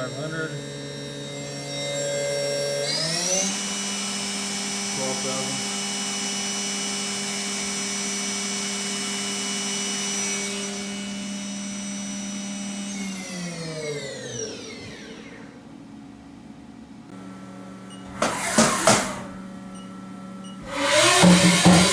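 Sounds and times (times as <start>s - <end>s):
machine spindle whine: 0.0s - 15.7s, 17.8s - 21.9s.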